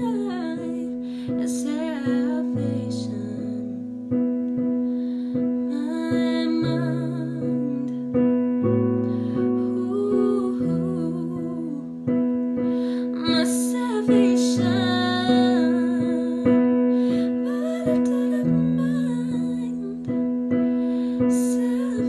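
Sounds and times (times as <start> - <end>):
girl singing slow song: 0.0 - 22.0
piano chords: 0.0 - 22.0.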